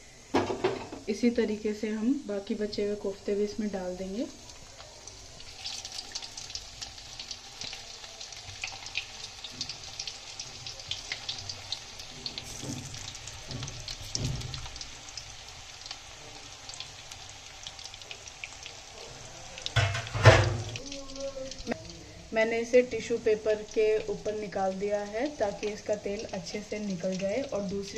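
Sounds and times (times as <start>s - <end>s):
food deep-frying in hot oil: 0.0s - 27.9s.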